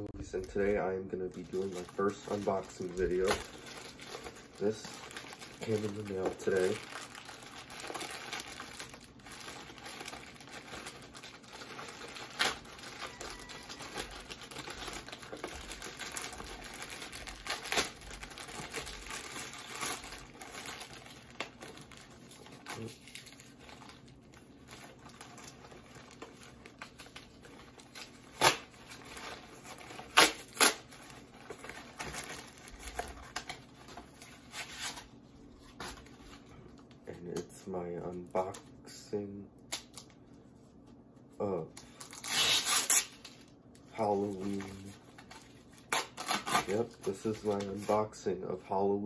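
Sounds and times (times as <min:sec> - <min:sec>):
plastic package crinkling and tearing: 0:00.2 - 0:38.8, 0:39.6 - 0:48.2.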